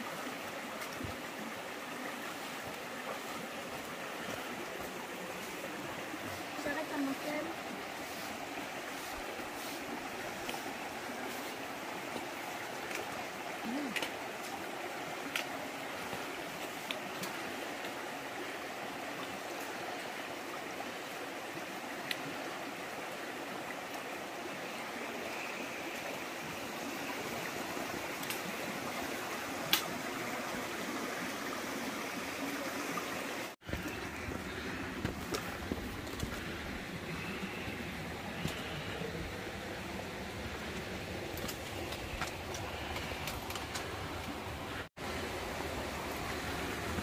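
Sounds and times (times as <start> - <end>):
stream water running: 0.0 - 47.0.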